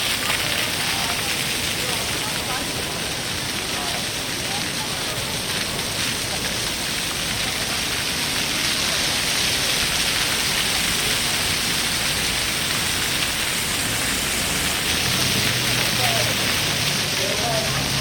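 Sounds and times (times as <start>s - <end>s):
fountain water splashing: 0.0s - 18.0s.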